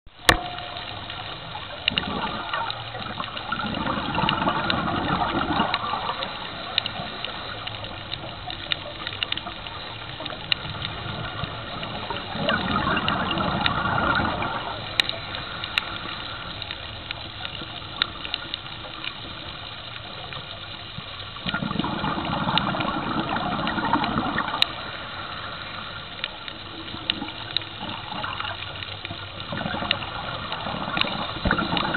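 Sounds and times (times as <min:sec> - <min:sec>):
underwater bubbles rushing: 0:00.1 - 0:31.9
watery noise: 0:00.1 - 0:31.9
small clicks: 0:00.2 - 0:24.8, 0:25.6 - 0:31.9.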